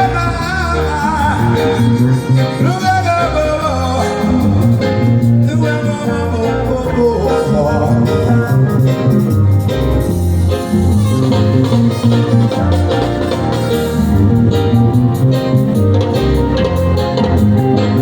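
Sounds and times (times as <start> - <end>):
live band playing upbeat pop: 0.0 - 18.0.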